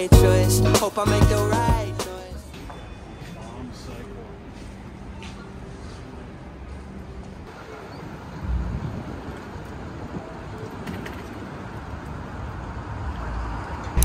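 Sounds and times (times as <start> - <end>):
traffic rumble: 1.7 - 14.0.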